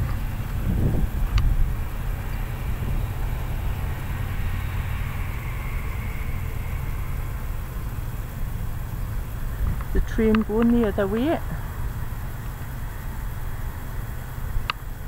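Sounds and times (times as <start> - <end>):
distant vehicle hum: 0.0 - 15.0
wind buffeting microphone: 0.0 - 15.0.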